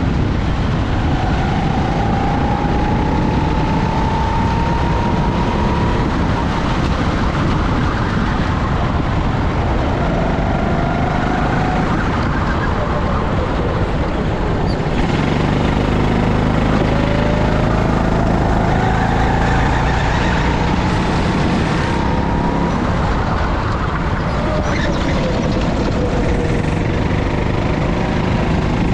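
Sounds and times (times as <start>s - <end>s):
go-kart engine revving: 0.0s - 28.9s
wind rumble on microphone: 0.0s - 28.9s.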